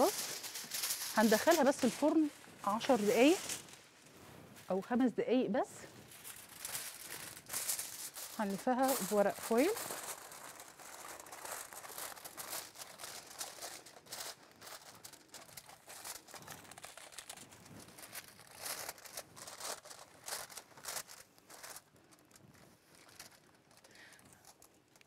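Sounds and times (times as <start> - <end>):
aluminium foil crinkling: 0.0 - 4.0, 5.8 - 25.0.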